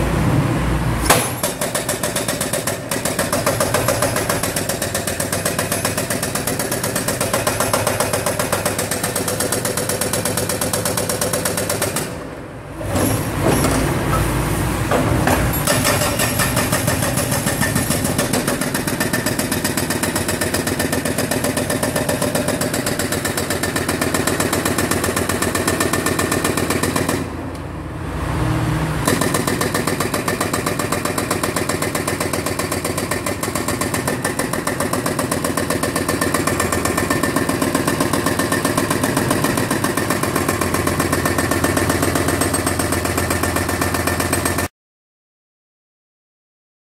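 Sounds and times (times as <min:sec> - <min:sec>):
hydraulic breaker hammering: 0:01.0 - 0:12.2, 0:14.8 - 0:27.3, 0:29.0 - 0:44.7.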